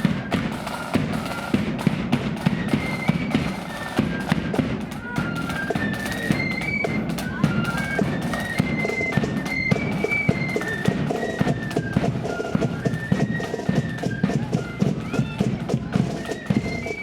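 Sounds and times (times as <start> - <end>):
high flute melody: 0.0 - 17.0
snare drum beats: 0.0 - 17.0.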